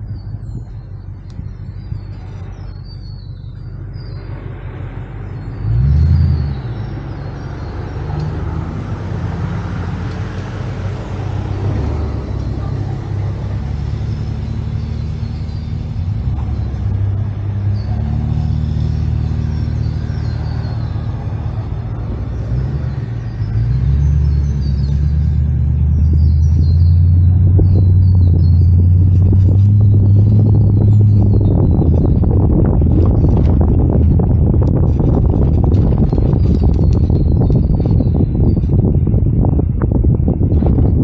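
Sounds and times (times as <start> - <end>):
vehicle engine and road rumble: 0.0 - 41.0.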